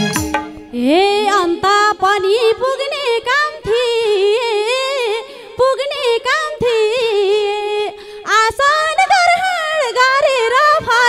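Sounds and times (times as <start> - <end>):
woman singing into a microphone: 0.6 - 11.0.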